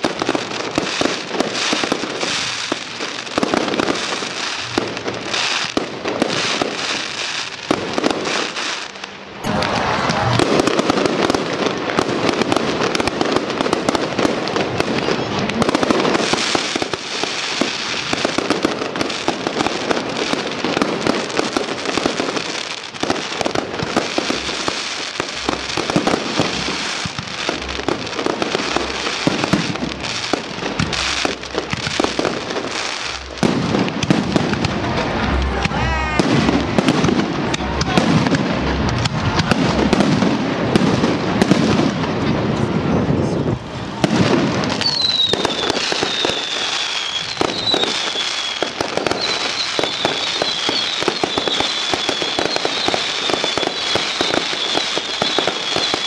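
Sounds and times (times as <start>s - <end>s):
firework crackling: 0.0s - 56.0s.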